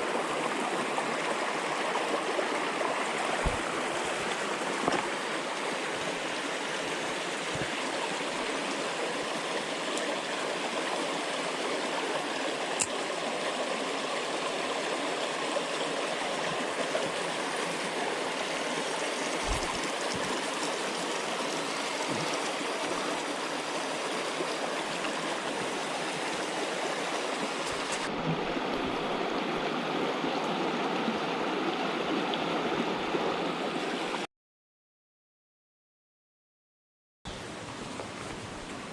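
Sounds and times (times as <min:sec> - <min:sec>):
mountain stream flowing: 0:00.0 - 0:34.3, 0:37.3 - 0:38.9.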